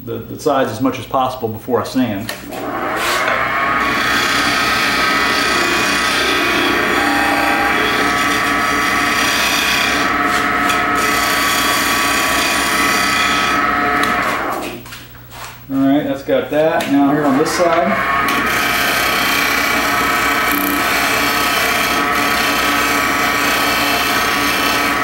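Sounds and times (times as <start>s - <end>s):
tool scraping spinning wood: 2.4s - 15.6s, 16.9s - 25.0s
wood lathe running: 2.5s - 14.8s, 16.9s - 25.0s.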